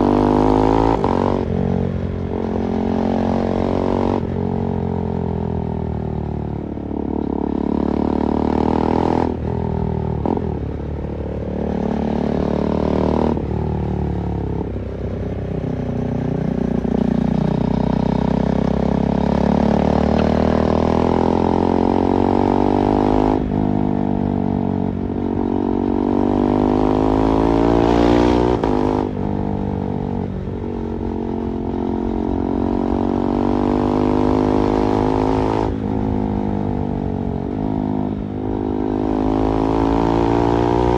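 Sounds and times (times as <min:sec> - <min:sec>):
motorcycle engine revving: 0:06.8 - 0:14.8, 0:15.7 - 0:40.9.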